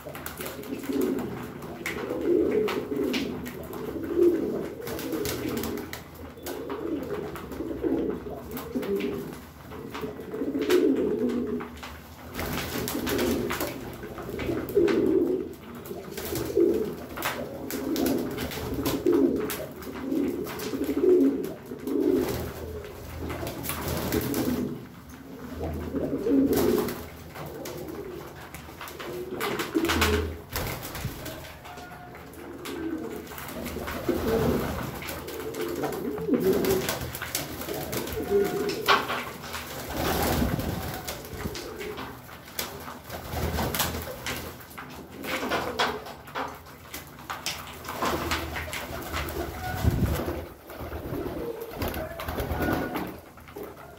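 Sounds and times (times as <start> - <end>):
pigeons cooing: 0.0 - 44.3, 47.9 - 53.9.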